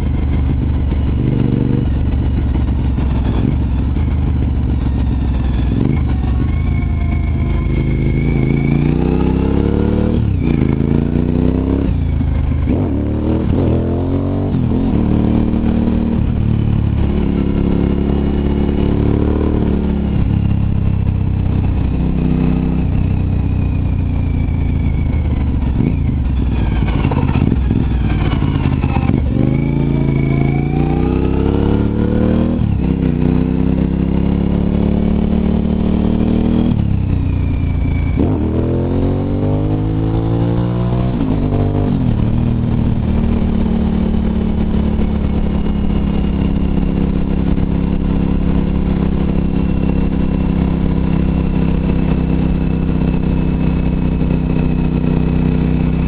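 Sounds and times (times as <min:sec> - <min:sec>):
motorcycle engine revving through gears: 0:00.0 - 0:56.0.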